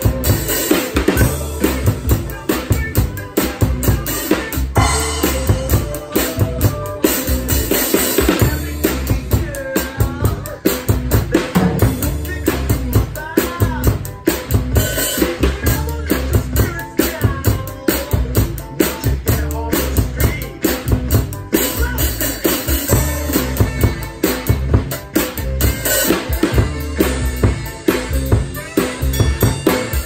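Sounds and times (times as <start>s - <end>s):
recorded song with vocals: 0.0s - 24.2s
drum kit funk groove: 0.0s - 30.0s.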